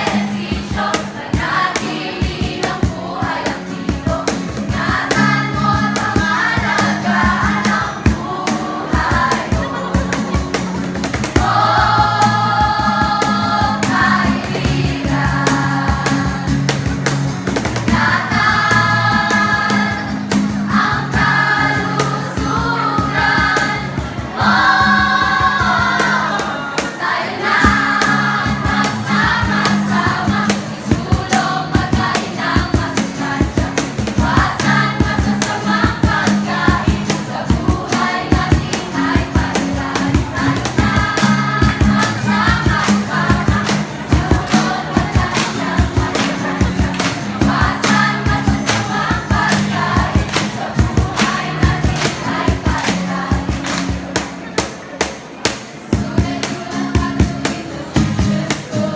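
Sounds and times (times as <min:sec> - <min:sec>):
group singing jingle: 0:00.0 - 0:58.9
instrumental accompaniment: 0:00.0 - 0:58.9
quick percussive beat: 0:00.0 - 0:58.9.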